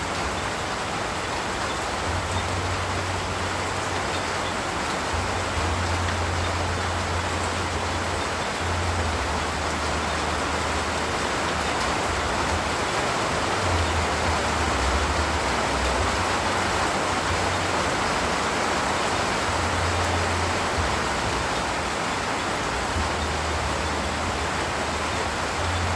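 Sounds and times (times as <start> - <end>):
steady rain hiss: 0.0 - 25.9.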